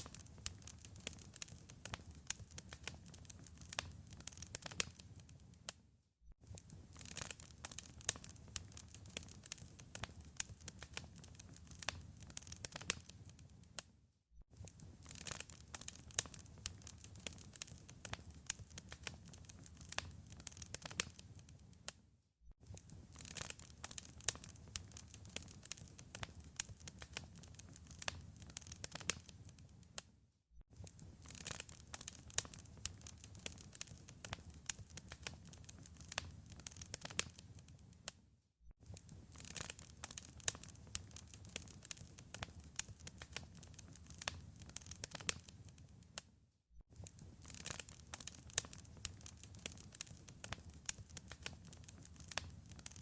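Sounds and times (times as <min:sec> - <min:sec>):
wood fire crackling: 0:00.0 - 0:05.8, 0:06.4 - 0:13.9, 0:14.6 - 0:22.0, 0:22.6 - 0:30.0, 0:30.8 - 0:38.2, 0:38.8 - 0:46.2, 0:46.9 - 0:53.0.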